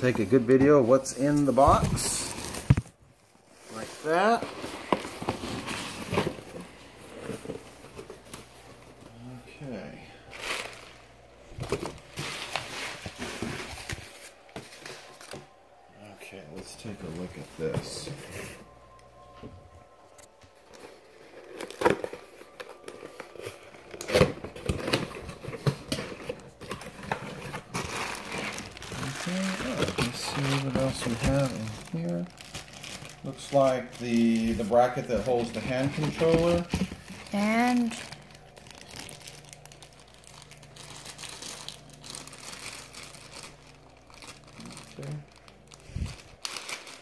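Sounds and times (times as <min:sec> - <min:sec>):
bubble-wrap crinkle: 0:00.0 - 0:19.3, 0:20.2 - 0:47.0.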